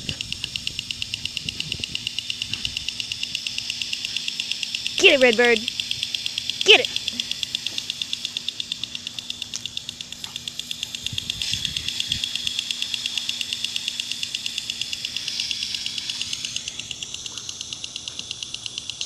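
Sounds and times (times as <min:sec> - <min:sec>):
lawn sprinkler ticking: 0:00.0 - 0:19.0.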